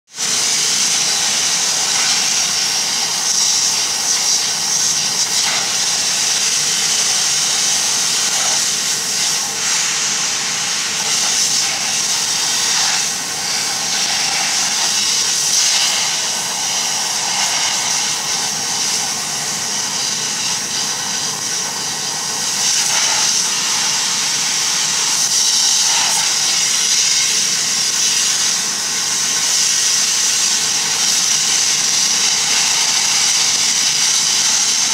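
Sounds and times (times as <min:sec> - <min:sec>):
steam jet hissing: 0:00.1 - 0:34.9.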